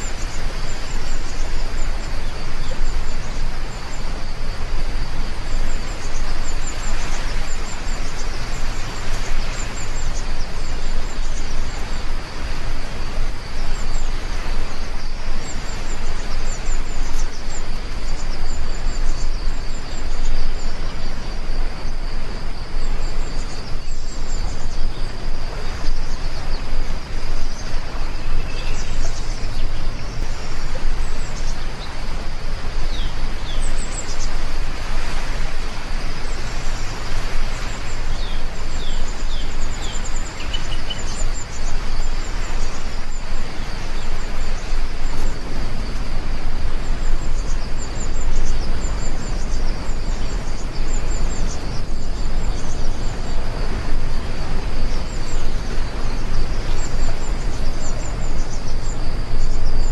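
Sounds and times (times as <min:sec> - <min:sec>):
heavy rainfall: 0:00.0 - 0:59.9
small birds chirping: 0:00.0 - 0:59.9.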